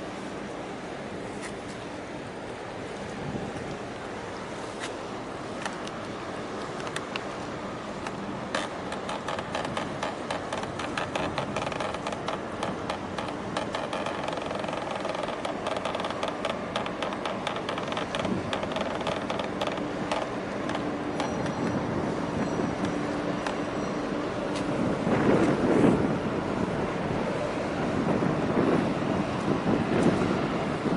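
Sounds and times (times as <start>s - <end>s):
engine running: 4.0s - 30.9s.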